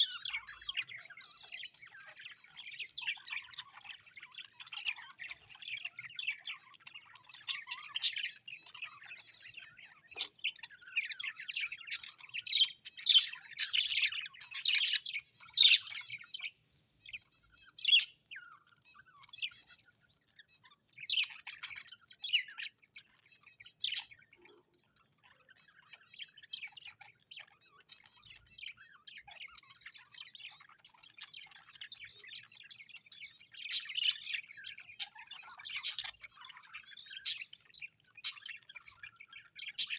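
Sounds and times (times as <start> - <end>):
bird squawks: 0.0 - 16.6, 20.5 - 39.9
small birds chirping: 0.0 - 39.9.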